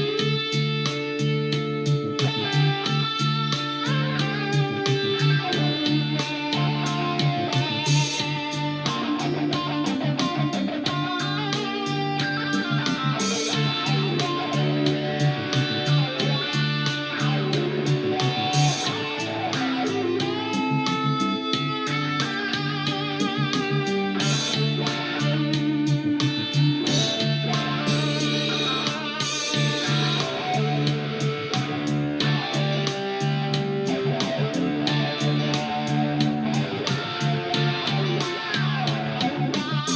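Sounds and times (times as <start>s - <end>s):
guitar playing: 0.0s - 39.9s.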